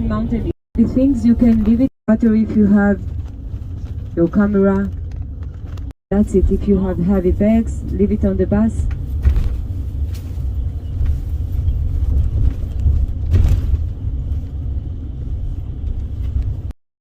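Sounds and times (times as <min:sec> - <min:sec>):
bus engine rumble from inside: 0:00.0 - 0:16.8.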